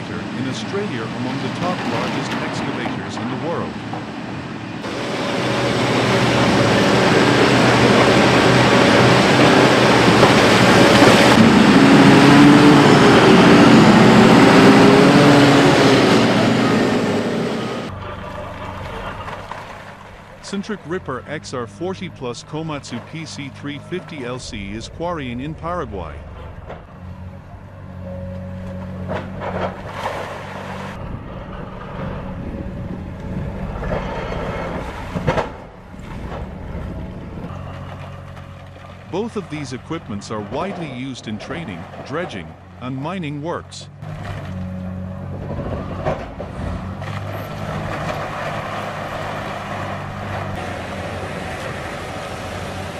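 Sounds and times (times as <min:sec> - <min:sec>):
excavator engine and hydraulics: 0:00.0 - 0:52.9.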